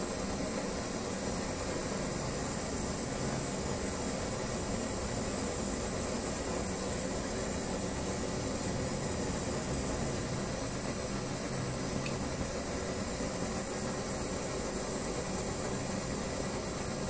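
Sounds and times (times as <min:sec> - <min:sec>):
pressure stove hissing: 0:00.0 - 0:17.0.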